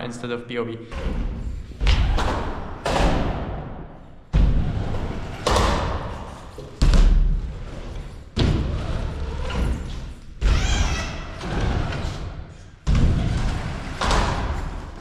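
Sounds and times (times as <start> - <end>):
bike wheels thudding on ramps: 1.0 - 15.0.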